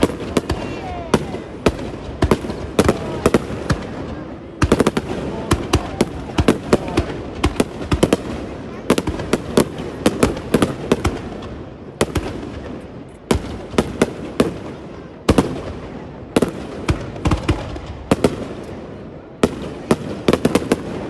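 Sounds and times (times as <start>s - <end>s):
fireworks bangs with rumbling echo: 0.0s - 21.0s.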